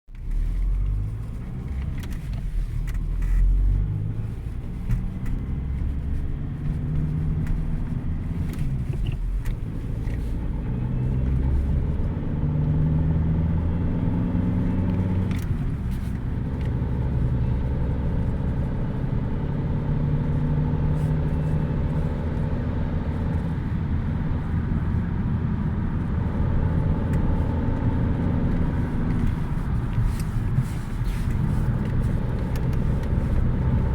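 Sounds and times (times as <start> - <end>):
strange engine noise: 0.1 - 33.9
car engine revving: 0.3 - 33.9.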